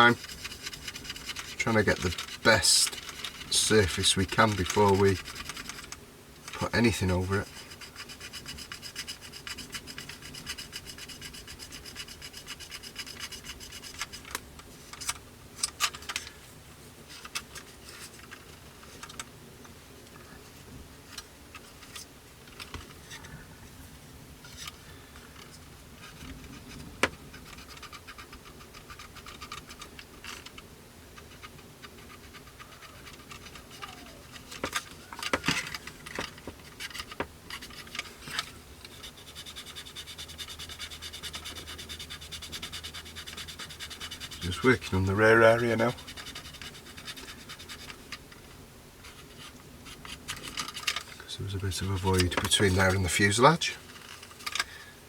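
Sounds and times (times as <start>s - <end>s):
scratching on plastic: 0.0s - 16.4s, 24.4s - 54.8s.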